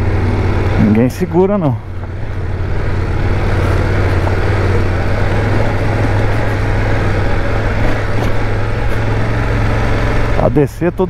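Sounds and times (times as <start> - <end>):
motorcycle engine pulling under load: 0.0 - 10.6.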